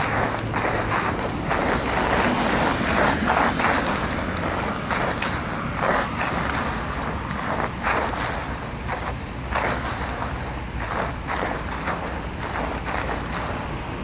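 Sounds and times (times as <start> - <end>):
footsteps on icy path: 0.0 - 14.0.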